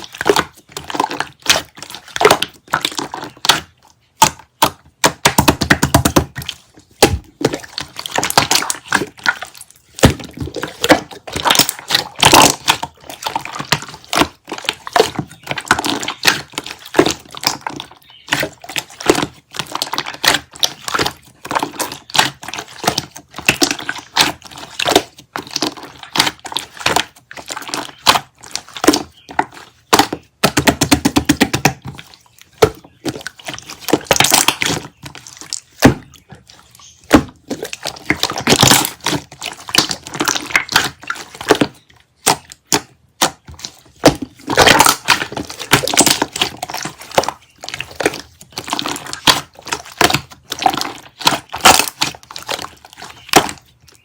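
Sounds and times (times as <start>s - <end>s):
crackling and crinkling: 0.0s - 54.0s.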